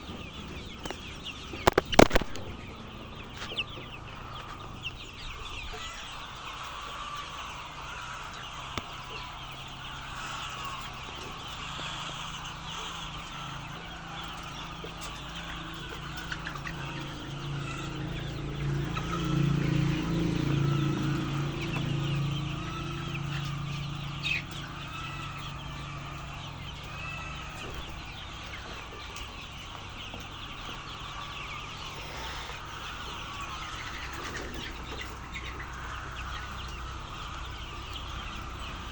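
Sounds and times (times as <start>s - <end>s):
chickens clucking and calling: 0.0s - 38.9s.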